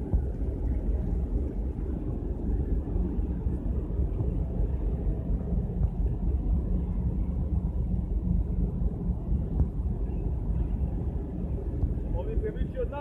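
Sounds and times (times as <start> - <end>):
ship engine hum: 0.0 - 13.0
wind rumble on microphone: 0.0 - 13.0.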